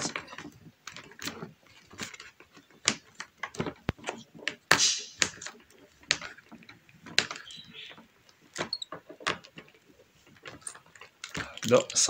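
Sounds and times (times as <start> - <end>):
hard plastic clicks and knocks: 0.0 - 12.0.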